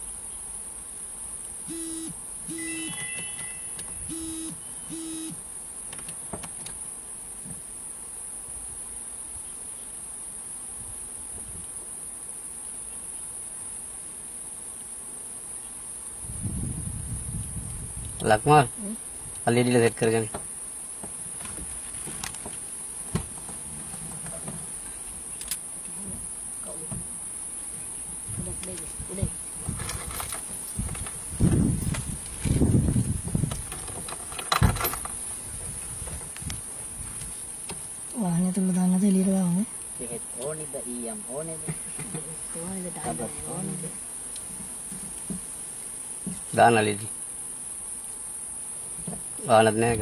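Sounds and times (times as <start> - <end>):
insect chorus buzzing: 0.0 - 50.0.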